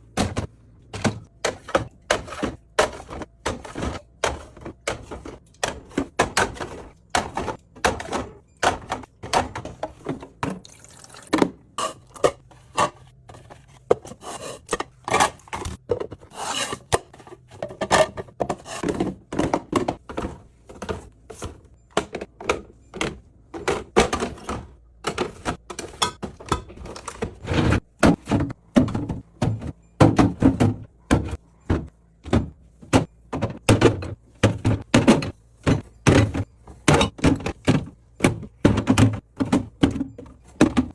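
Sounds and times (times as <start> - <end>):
food containers clinking on shelves: 0.0 - 40.9.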